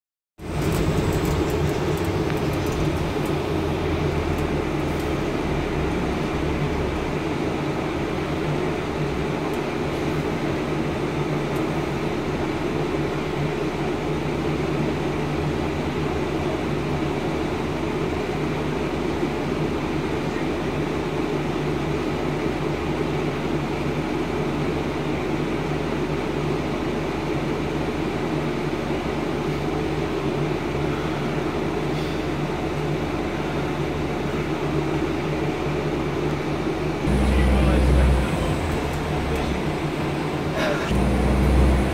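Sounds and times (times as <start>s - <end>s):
bus diesel engine humming: 0.4s - 41.9s
fan and road noise: 0.4s - 41.9s.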